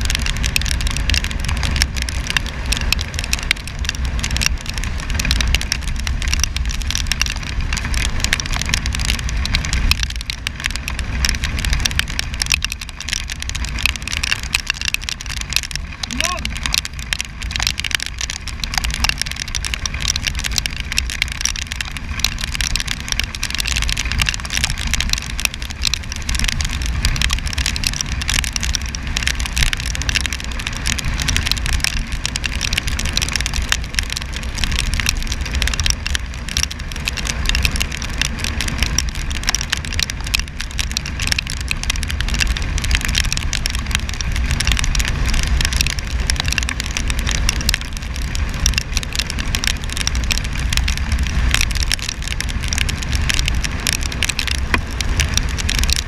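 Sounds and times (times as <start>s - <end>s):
rain hissing: 0.0s - 56.0s
raindrops ticking on microphone: 0.0s - 56.0s
tyre spray on wet road: 0.0s - 56.0s.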